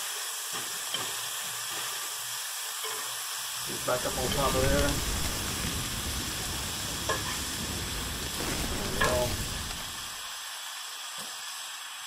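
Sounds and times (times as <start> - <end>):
food sizzling on griddle: 0.0 - 12.0.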